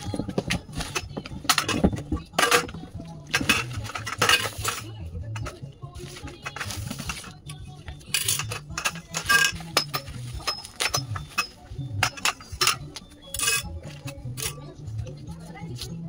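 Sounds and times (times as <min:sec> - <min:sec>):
metal tubes clinking on tiles: 0:00.0 - 0:05.6, 0:06.4 - 0:14.7.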